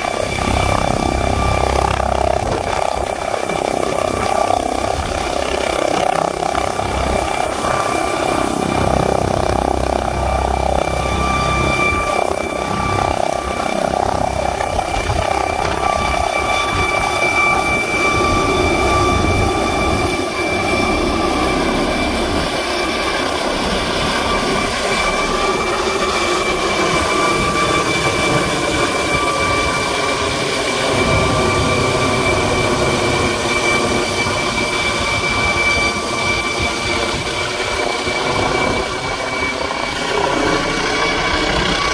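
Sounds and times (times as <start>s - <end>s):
helicopter turbine whine: 0.0s - 41.9s.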